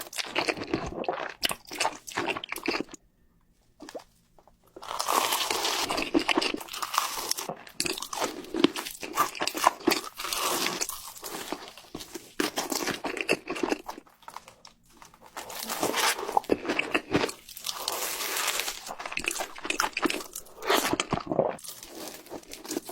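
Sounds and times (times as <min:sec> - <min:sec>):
crunching and chewing: 0:00.0 - 0:03.0, 0:03.7 - 0:22.9.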